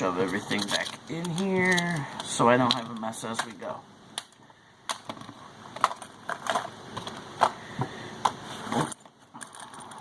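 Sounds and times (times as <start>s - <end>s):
hard items clacking together: 0.2s - 3.5s, 4.9s - 10.0s.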